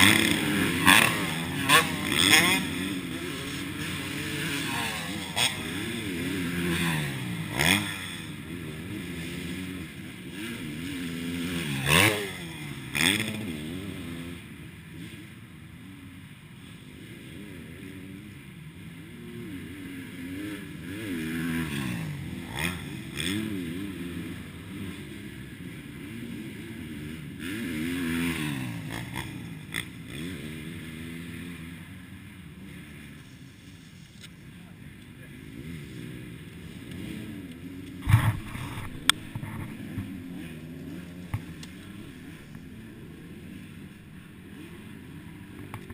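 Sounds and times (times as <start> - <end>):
motorbike engine revving: 0.0 - 15.4, 17.0 - 34.3, 35.1 - 45.9.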